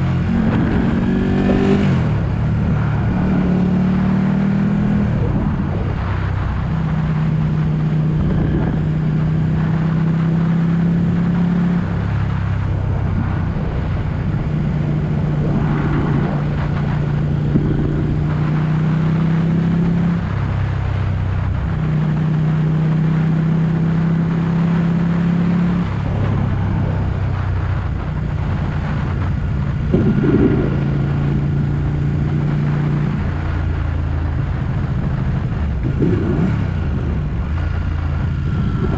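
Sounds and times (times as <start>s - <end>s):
motorcycle engine running: 0.0s - 19.4s, 20.8s - 38.9s.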